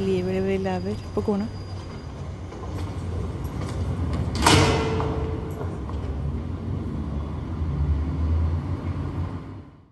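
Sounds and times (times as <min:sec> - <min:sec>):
city traffic rumble: 0:00.0 - 0:09.9.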